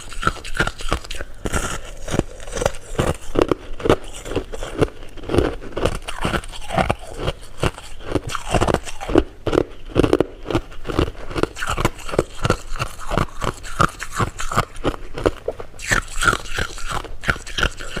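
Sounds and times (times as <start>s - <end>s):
chewing jelly candy: 0.0s - 18.0s.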